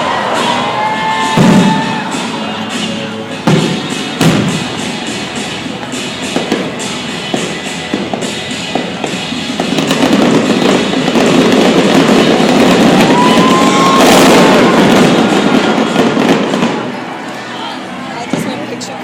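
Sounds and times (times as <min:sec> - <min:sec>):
fireworks bursting and crackling: 0:00.0 - 0:19.0
music playing: 0:00.0 - 0:19.0.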